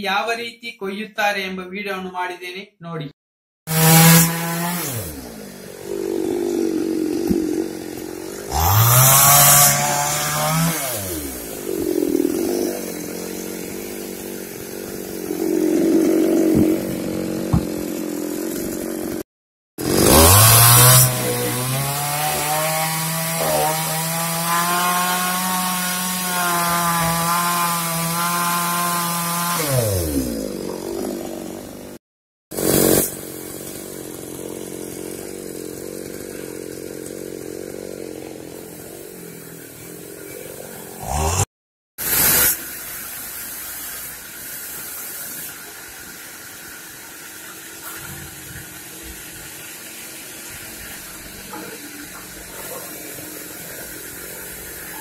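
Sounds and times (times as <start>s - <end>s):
chainsaw revving and idling: 3.7s - 41.5s, 47.7s - 55.0s.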